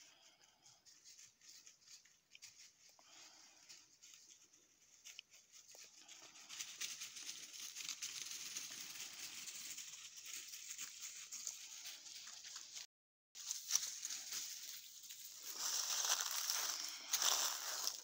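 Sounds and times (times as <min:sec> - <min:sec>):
footsteps through dry leaves: 0:00.2 - 0:18.0.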